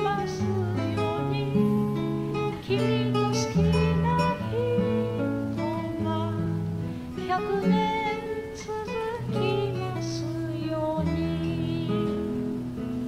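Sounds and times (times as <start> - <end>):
woman singing: 0.0 - 12.8
acoustic guitar ballad: 0.0 - 13.0.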